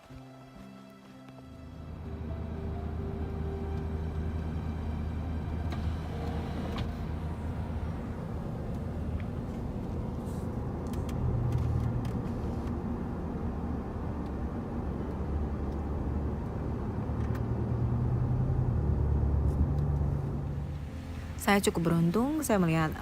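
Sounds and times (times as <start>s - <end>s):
vehicle engine rumbling: 1.6s - 23.0s.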